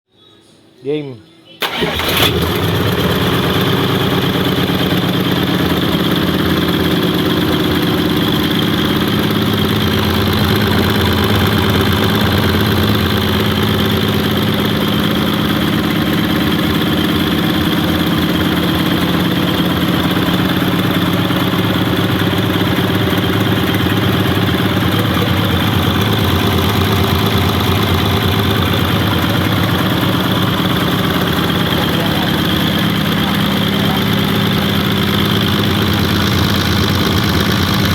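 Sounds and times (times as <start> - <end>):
diesel bus engine idling: 1.6 - 37.9.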